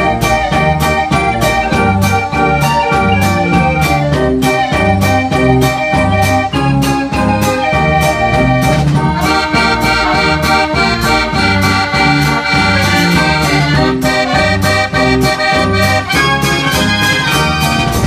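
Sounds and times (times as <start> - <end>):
street organ playing lively tune: 0.0 - 18.0.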